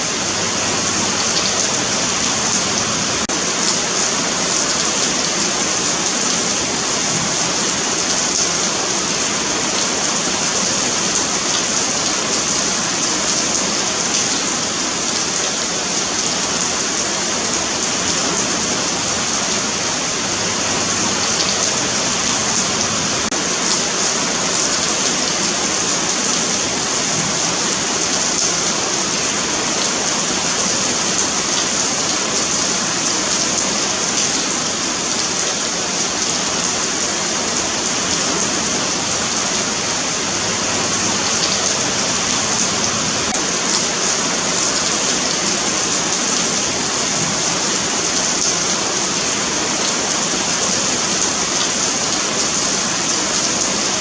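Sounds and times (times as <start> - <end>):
rain on pavement: 0.0 - 54.0.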